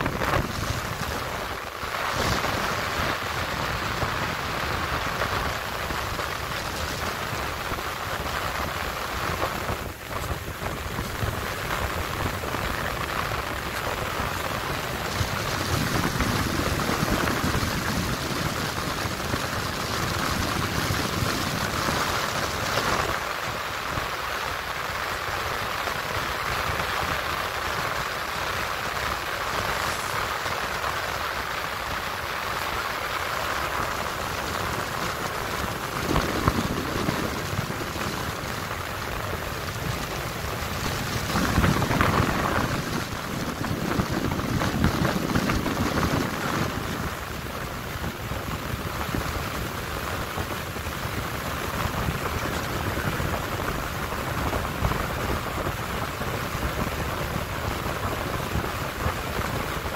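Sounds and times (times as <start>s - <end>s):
air rushing through ductwork: 0.0s - 24.5s, 26.2s - 59.9s.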